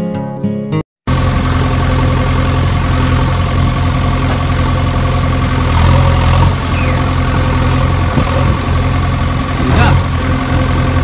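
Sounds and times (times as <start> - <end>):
steady engine-like drone: 1.1 - 11.0.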